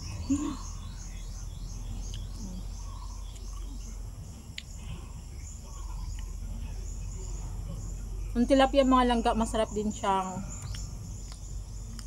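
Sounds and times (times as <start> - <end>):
low steady background hum: 0.0 - 12.0.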